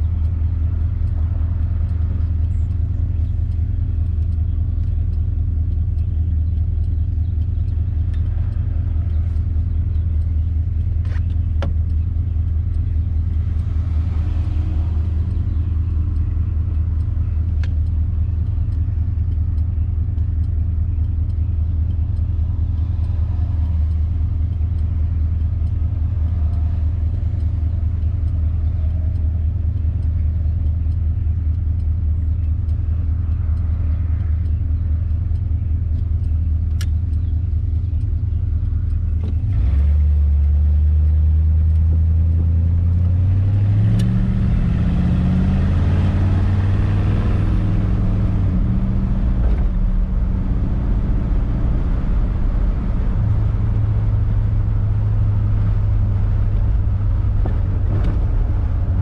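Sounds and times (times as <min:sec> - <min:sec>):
car engine droning: 0:00.0 - 0:59.0
faint clicks: 0:00.0 - 0:59.0
road noise: 0:00.0 - 0:59.0.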